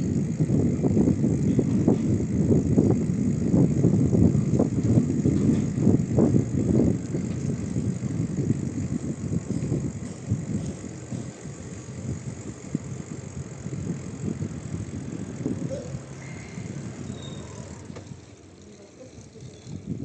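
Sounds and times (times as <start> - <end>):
wind buffeting microphone: 0.0 - 18.3, 19.1 - 20.0
tyres rolling on road: 0.0 - 20.0.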